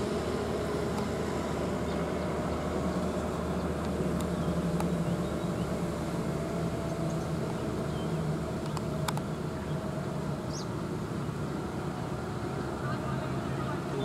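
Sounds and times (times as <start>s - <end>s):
truck diesel engines droning: 0.0s - 14.0s.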